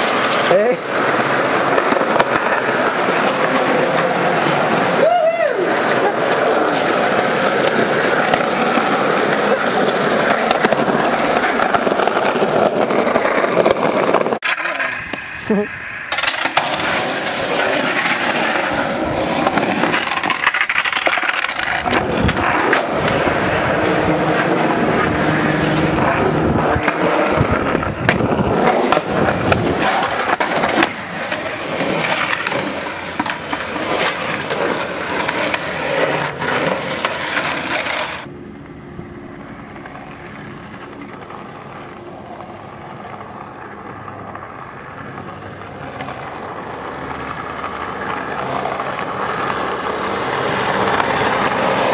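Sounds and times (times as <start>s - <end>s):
skateboard clacking on concrete: 0.0s - 38.8s, 39.4s - 51.9s
skateboard wheels rolling on concrete: 0.0s - 51.9s.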